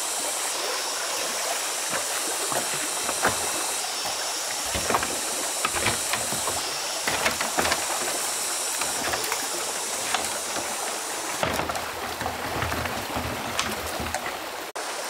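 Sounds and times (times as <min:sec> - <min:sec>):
stream water rushing: 0:00.0 - 0:15.0
knocks and clicks: 0:02.5 - 0:14.7.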